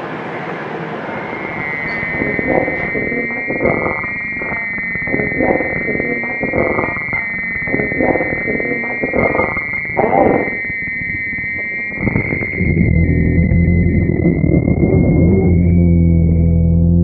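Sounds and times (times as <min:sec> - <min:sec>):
rough noisy pulsing texture: 0:00.0 - 0:16.5
high synthesizer drone: 0:00.0 - 0:17.0.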